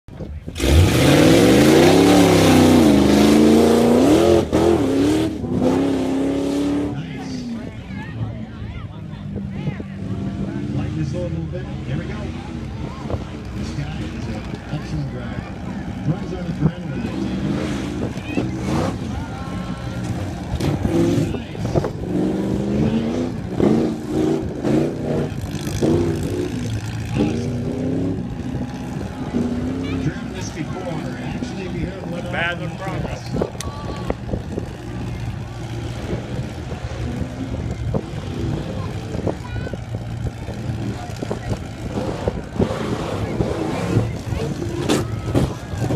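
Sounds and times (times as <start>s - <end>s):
truck engine revving: 0.4s - 45.9s.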